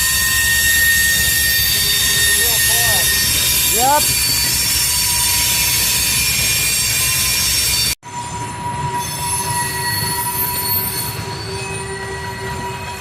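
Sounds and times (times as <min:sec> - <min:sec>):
freight train cars rolling: 0:00.0 - 0:13.0
steel wheels squealing: 0:00.0 - 0:13.0.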